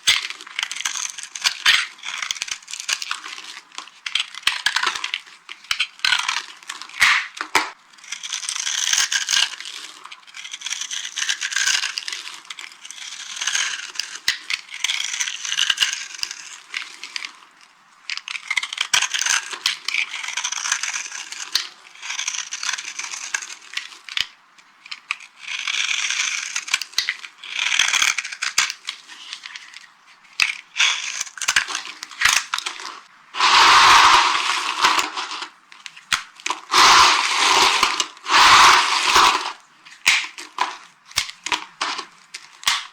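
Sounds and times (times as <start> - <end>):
soap crunching and crumbling: 0.1 - 17.5, 24.9 - 42.9.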